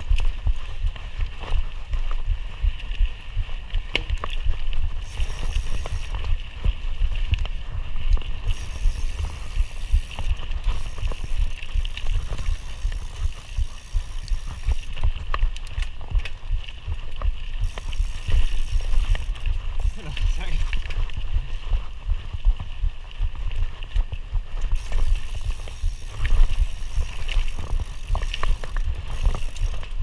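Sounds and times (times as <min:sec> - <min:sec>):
mountain bike rattling over rough ground: 0:00.0 - 0:30.0.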